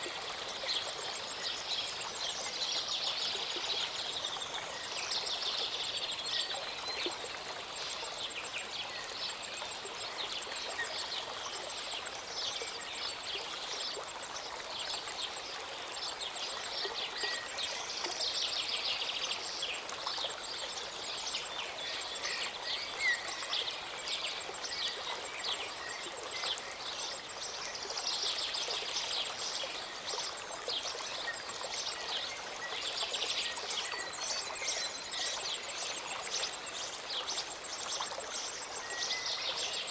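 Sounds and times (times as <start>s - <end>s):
stream and waterfall running: 0.0s - 39.9s.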